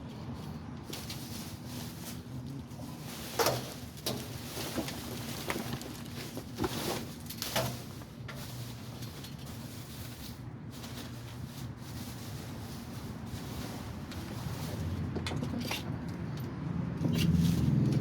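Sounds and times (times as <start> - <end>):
knocks and rustles: 0.8 - 18.0.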